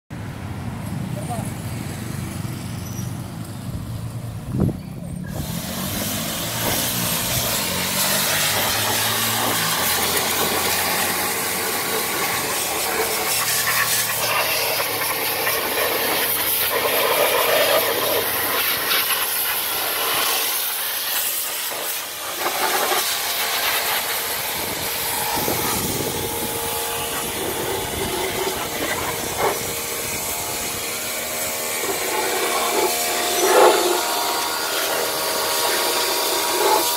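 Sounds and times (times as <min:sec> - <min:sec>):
pressure washer spraying water: 0:05.3 - 0:36.9.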